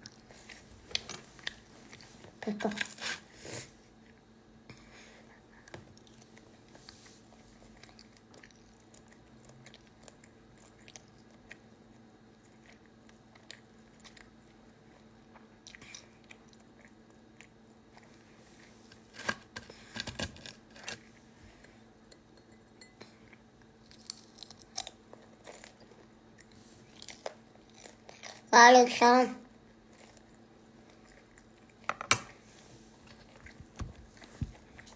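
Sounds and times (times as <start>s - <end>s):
person chewing and crunching food: 0.0s - 28.5s, 29.5s - 34.9s.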